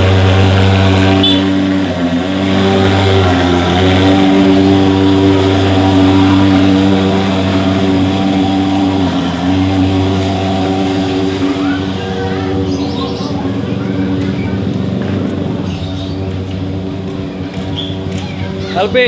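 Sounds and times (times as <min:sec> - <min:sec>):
thermal fogging machine drone: 0:00.0 - 0:19.0.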